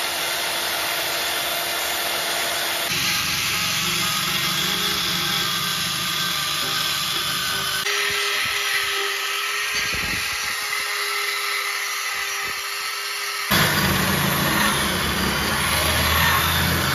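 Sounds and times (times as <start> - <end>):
power tool running: 0.0 - 16.9.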